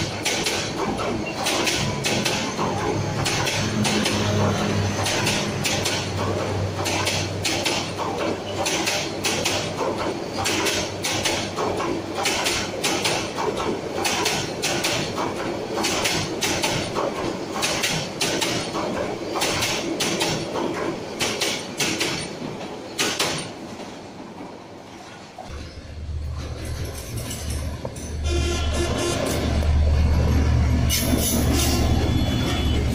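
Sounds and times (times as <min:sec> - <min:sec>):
train rolling rumble: 0:00.0 - 0:32.9
wheels clattering over rail joints: 0:00.0 - 0:32.9.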